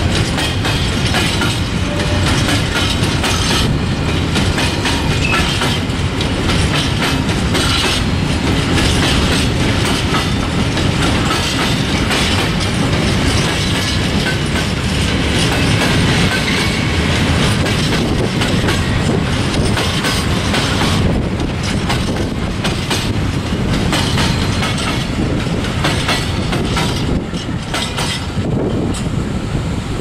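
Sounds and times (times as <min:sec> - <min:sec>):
wheels clicking over rail joints: 0:00.0 - 0:29.1
freight train rolling past: 0:00.0 - 0:30.0.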